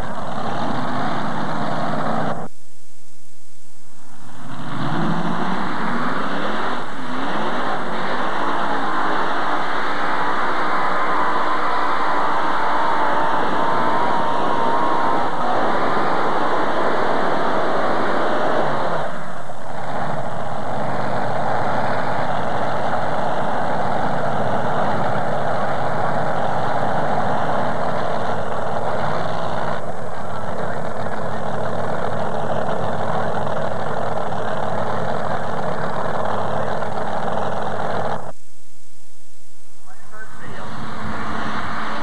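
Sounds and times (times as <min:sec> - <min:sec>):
tractor engines idling: 0:00.0 - 0:02.5, 0:04.4 - 0:38.3.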